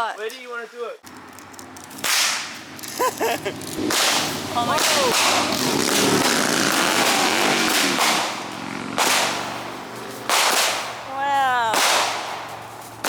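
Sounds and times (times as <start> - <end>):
fireworks whooshing and cracking: 1.0 - 13.0.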